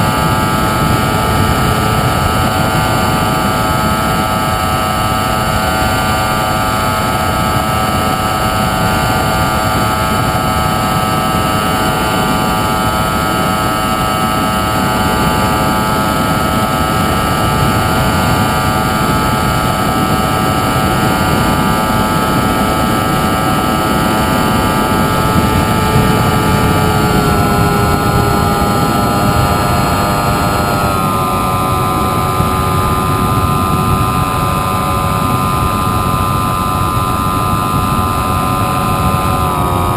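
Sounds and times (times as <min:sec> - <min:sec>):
model airplane motor whining: 0:00.0 - 0:39.9
rush of wind: 0:00.0 - 0:39.9.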